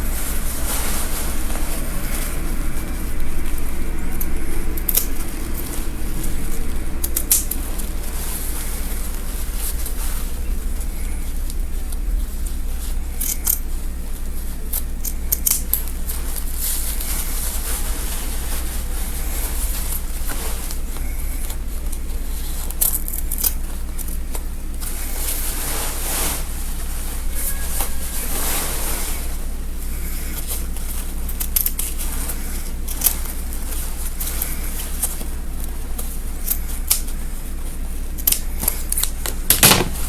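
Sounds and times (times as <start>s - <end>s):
fabric rustling: 0.0s - 15.0s, 15.7s - 40.0s
steady low hum: 0.0s - 40.0s.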